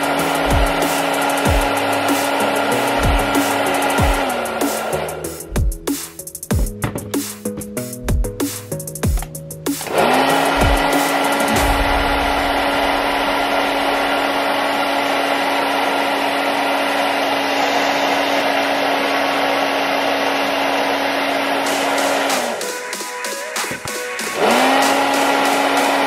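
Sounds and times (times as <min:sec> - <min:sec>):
electric fan humming: 0:00.0 - 0:22.7.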